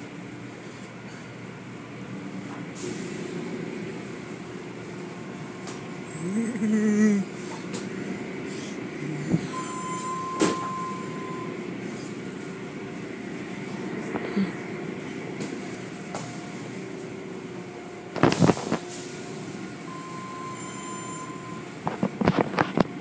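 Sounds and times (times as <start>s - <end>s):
car wash machinery hum: 0.0s - 23.0s.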